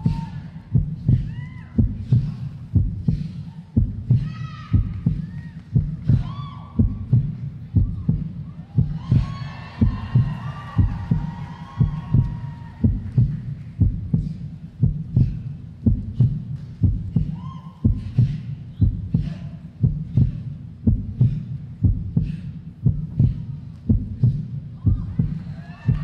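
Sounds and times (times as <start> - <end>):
deep pounding music beat: 0.0 - 26.0.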